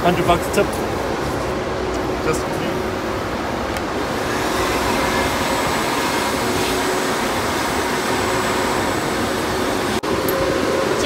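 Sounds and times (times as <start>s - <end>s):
vacuum rushing air: 0.0s - 11.0s.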